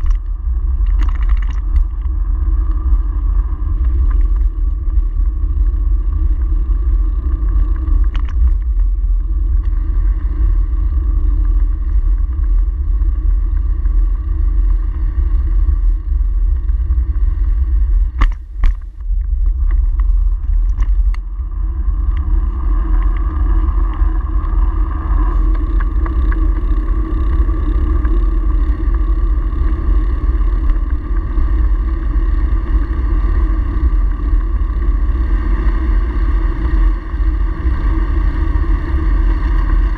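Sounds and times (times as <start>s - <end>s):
bicycle tyre noise: 0.0s - 39.9s
wind buffeting: 0.0s - 39.9s.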